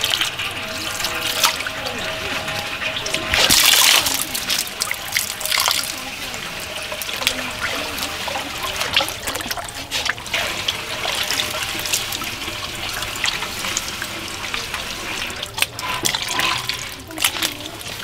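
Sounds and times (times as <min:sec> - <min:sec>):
water trickling and dripping: 0:00.0 - 0:18.0.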